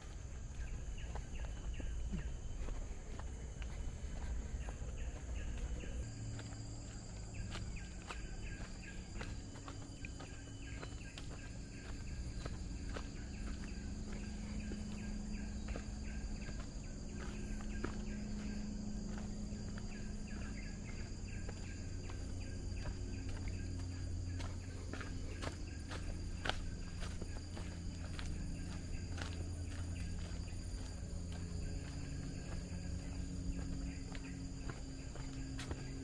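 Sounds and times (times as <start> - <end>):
footsteps on a path: 0.0 - 36.0
high insect drone: 0.0 - 36.0
low steady hum: 0.0 - 36.0.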